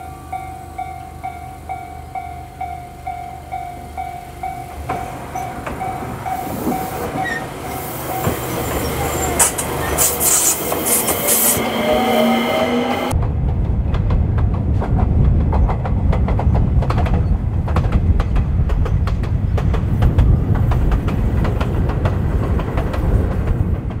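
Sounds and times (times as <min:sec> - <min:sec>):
train rumble: 0:00.0 - 0:24.0
wheels clattering over rails: 0:00.8 - 0:11.7, 0:12.9 - 0:24.0.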